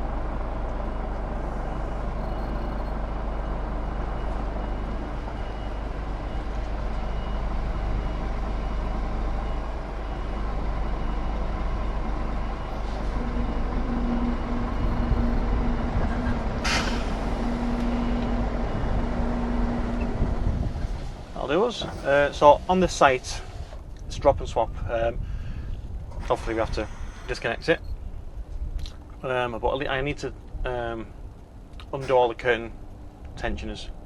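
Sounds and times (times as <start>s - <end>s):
low tone: 0.0s - 24.0s, 25.8s - 34.0s
diesel engine running: 0.0s - 34.0s.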